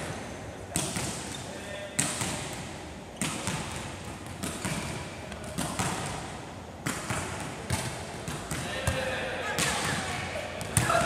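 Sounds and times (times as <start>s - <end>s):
volleyball thuds echoing in hall: 0.0s - 11.0s.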